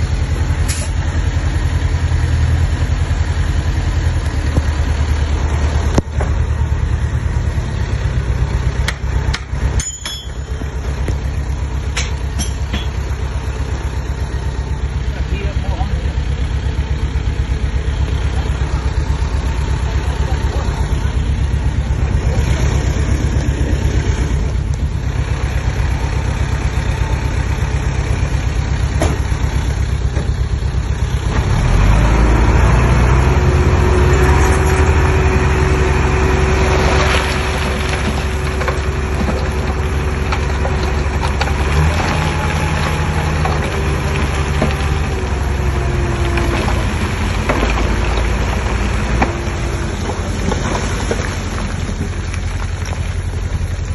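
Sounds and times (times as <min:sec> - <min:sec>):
bulldozer diesel engine running: 0:00.0 - 0:53.9
steady engine whine: 0:00.0 - 0:53.9.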